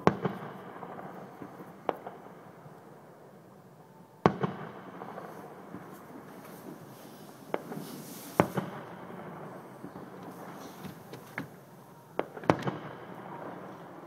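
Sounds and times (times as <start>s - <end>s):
fireworks crackle: 0.0s - 3.4s, 4.2s - 14.0s
fireworks bangs: 0.0s - 14.0s.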